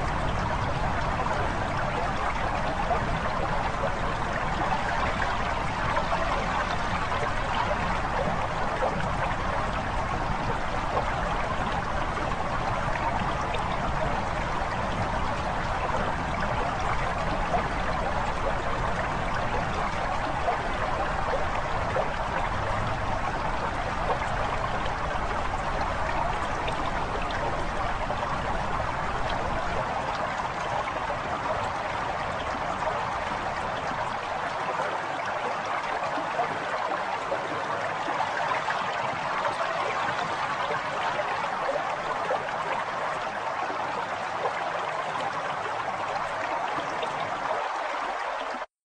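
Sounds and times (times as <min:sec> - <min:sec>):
trickling water: 0:00.0 - 0:48.7.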